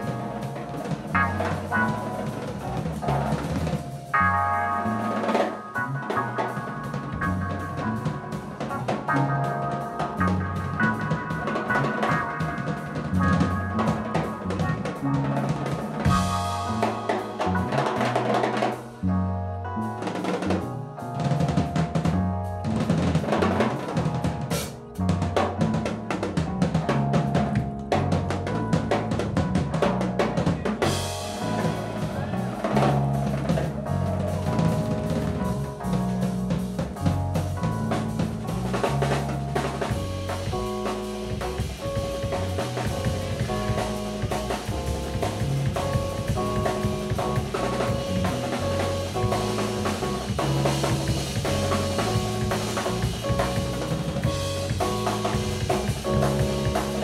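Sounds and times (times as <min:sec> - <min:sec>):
busy drum kit: 0:00.0 - 0:57.0
electric keyboard: 0:00.0 - 0:57.0
jazz-funk band playing: 0:00.0 - 0:57.0
walking bass line: 0:00.0 - 0:57.0.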